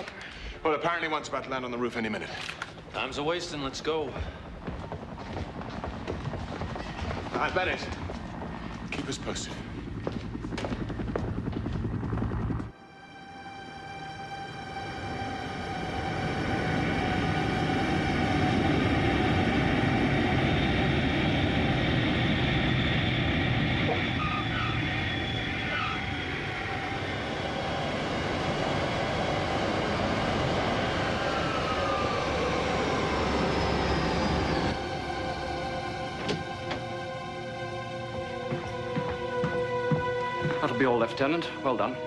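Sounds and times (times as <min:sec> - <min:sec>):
aircraft engines rumbling and whining: 0:00.0 - 0:42.0.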